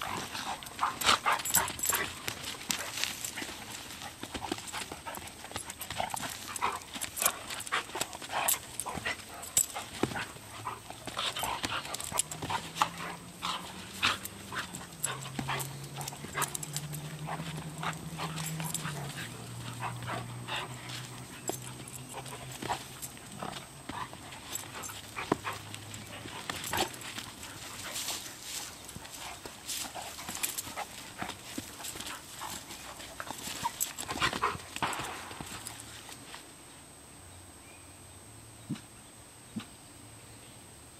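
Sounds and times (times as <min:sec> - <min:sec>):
dogs play-wrestling: 0:00.0 - 0:36.5.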